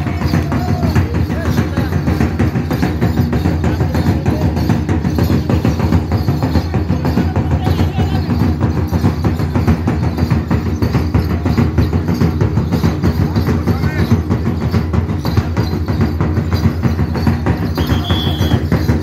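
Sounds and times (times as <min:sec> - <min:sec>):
drums beaten in fast rhythm: 0:00.0 - 0:19.0.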